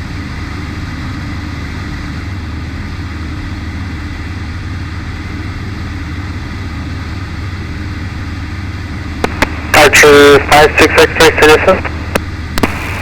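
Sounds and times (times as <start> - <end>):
airplane engine drone in cabin: 0.0 - 13.0.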